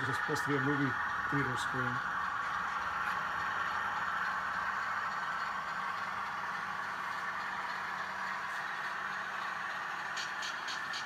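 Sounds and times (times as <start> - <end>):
steady whir: 0.0 - 11.0.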